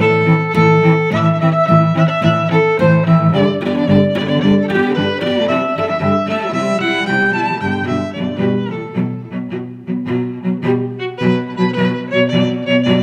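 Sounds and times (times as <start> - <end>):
violin and bowed strings music: 0.0 - 13.0.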